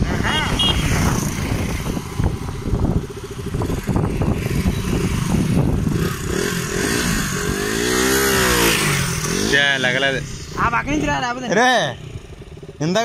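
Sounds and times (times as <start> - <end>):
motorcycle engine passing and revving: 0.0 - 13.0.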